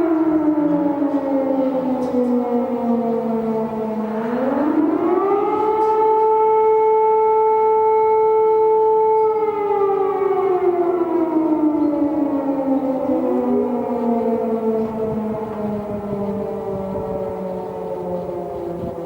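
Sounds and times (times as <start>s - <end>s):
civil defense siren wailing: 0.0s - 19.0s.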